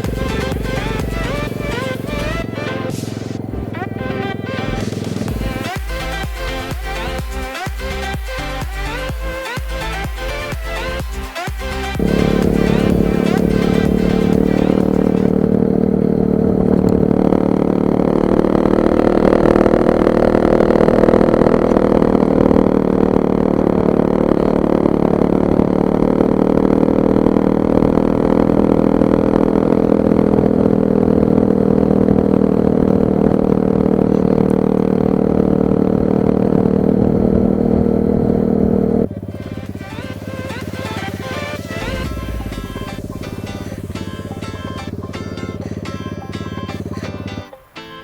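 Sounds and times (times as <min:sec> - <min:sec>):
motorbike engine running: 0:00.0 - 0:48.0.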